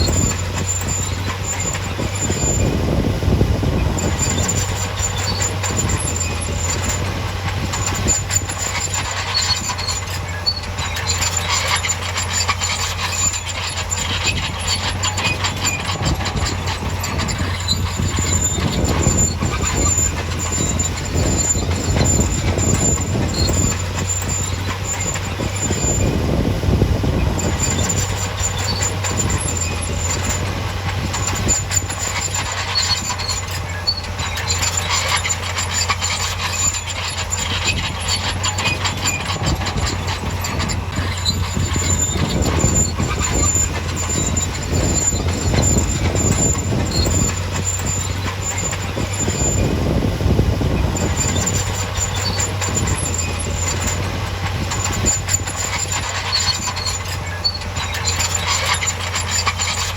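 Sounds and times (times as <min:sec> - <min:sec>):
heavy diesel machinery running: 0:00.0 - 0:59.9
high squeal: 0:00.0 - 0:59.9
metallic clanking and rattling: 0:00.0 - 0:59.9.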